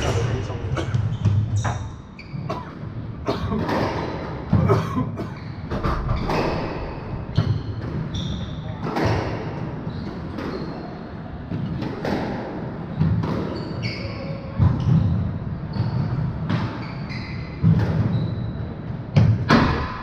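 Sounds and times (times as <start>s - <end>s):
sneakers squeaking on floor: 0.0s - 19.6s.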